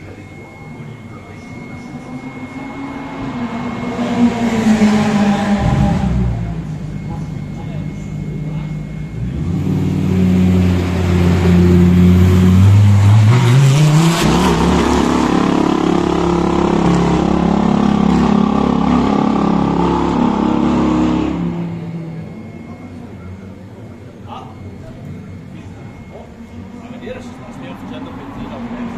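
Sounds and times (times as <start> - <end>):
race car engine droning: 0.0 - 28.9.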